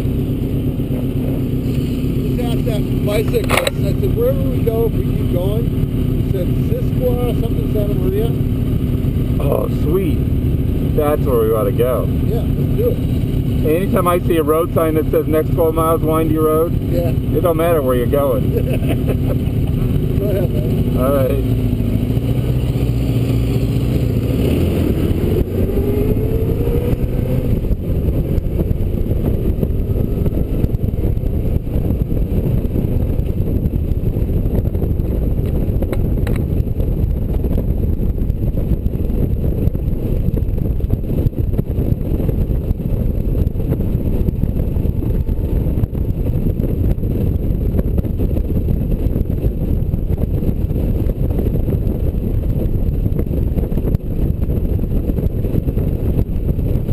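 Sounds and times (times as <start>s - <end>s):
motorcycle engine accelerating: 0.0s - 56.9s
road and wind noise: 0.0s - 56.9s.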